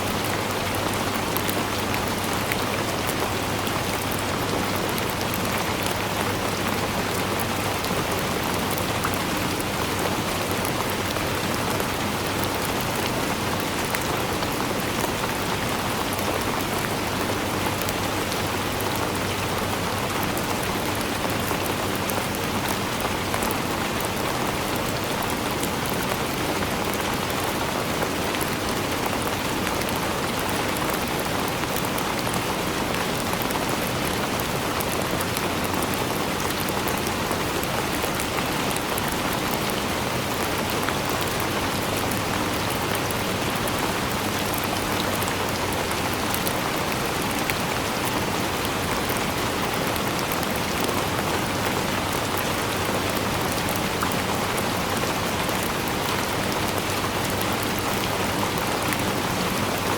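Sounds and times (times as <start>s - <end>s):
raindrops ticking on a surface: 0.0s - 59.9s
steady rainfall: 0.0s - 59.9s.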